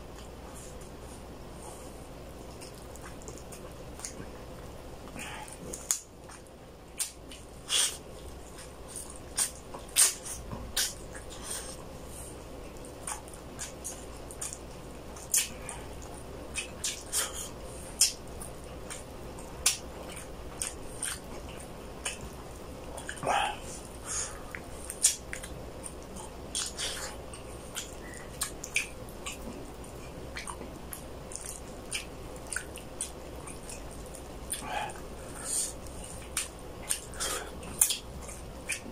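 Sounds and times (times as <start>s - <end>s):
person chewing with lip smacks: 2.4s - 11.8s, 12.7s - 22.3s, 22.9s - 38.9s.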